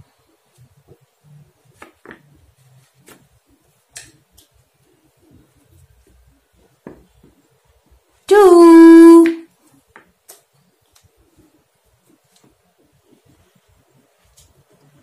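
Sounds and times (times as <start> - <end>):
markers tapping and drawing on paper: 0.4 - 7.5, 9.2 - 15.0.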